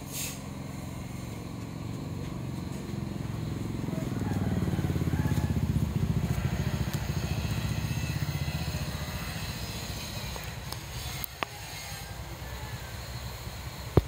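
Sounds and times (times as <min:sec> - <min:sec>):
engine low pulsing: 0:00.0 - 0:14.0.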